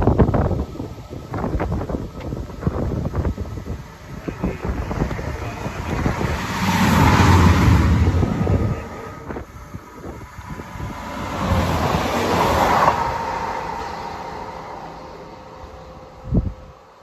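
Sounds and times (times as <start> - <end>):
diesel train passing: 0.0 - 17.0
wind buffeting microphone: 0.0 - 17.0.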